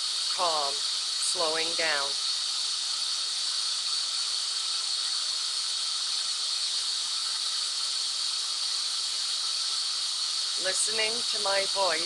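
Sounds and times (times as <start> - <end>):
white noise hiss: 0.0 - 12.0.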